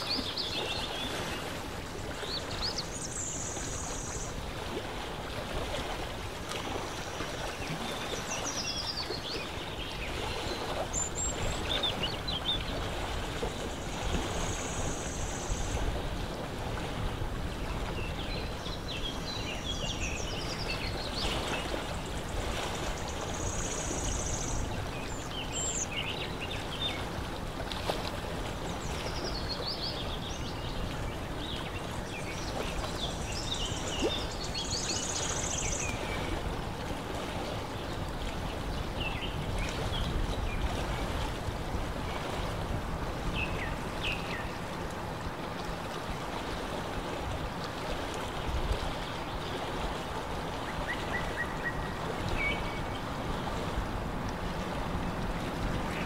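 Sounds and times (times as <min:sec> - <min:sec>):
water lapping: 0:00.0 - 0:56.0
wind: 0:00.0 - 0:56.0.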